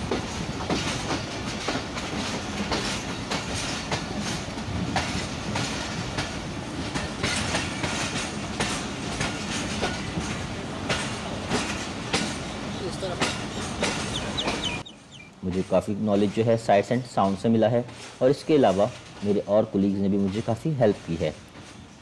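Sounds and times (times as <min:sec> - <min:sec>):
moving train rumble: 0:00.0 - 0:22.0
train wheels clattering over joints: 0:00.0 - 0:22.0.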